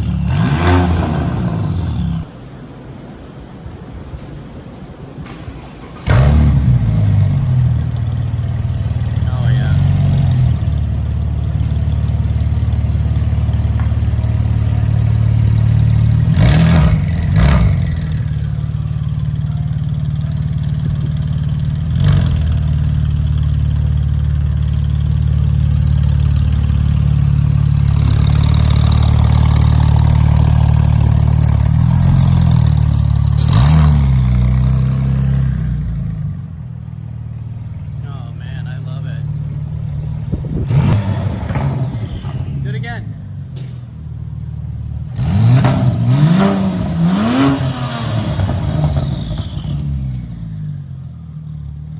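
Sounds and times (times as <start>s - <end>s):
car engine running steadily: 5.2s - 51.9s.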